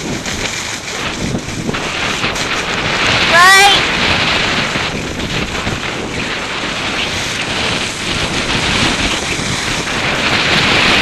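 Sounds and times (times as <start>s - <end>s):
snowboard sliding over snow: 0.0s - 11.0s
wind buffeting microphone: 0.0s - 11.0s.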